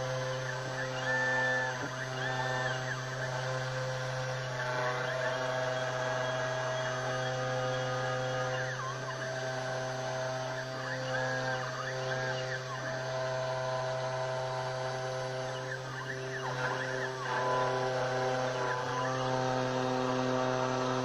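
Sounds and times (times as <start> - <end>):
router spindle hum: 0.0 - 21.0
stepper motors whining: 0.0 - 21.0.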